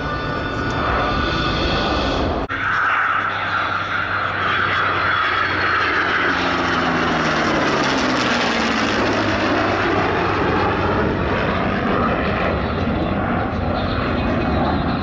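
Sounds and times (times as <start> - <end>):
aircraft flying past: 0.0 - 15.0.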